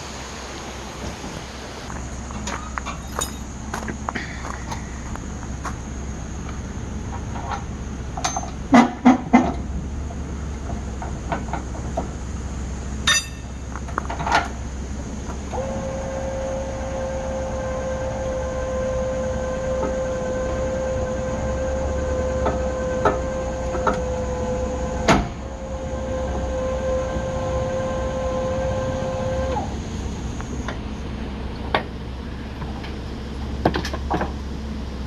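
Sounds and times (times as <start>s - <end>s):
truck engine low rumble: 0.0s - 35.0s.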